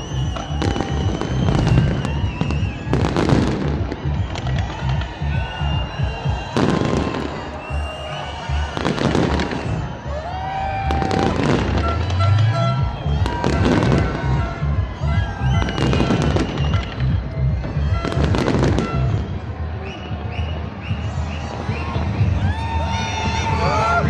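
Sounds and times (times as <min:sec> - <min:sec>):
fireworks crackling volleys: 0:00.0 - 0:19.7
crowd voices: 0:00.0 - 0:24.0
music: 0:00.0 - 0:24.0.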